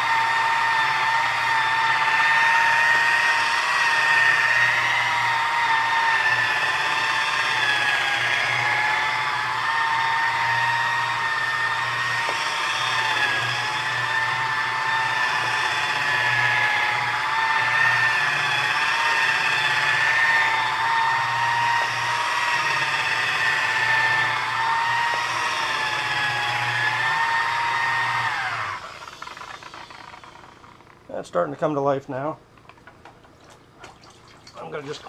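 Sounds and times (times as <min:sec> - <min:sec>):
electric buffer motor whine: 0:00.0 - 0:33.0.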